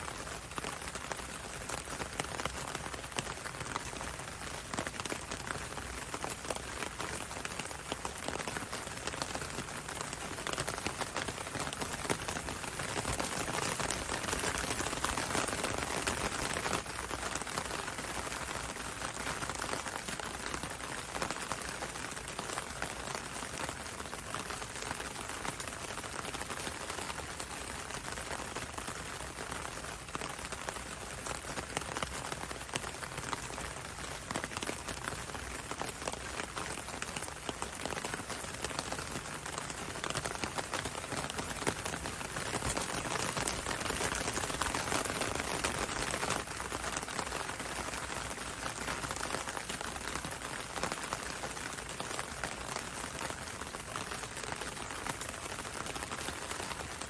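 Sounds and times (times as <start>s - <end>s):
rain pattering on window and road: 0.0s - 57.0s.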